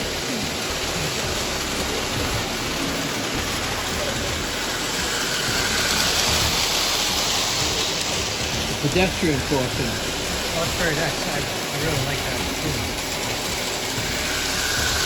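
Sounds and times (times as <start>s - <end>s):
busy hall background noise: 0.0s - 15.0s.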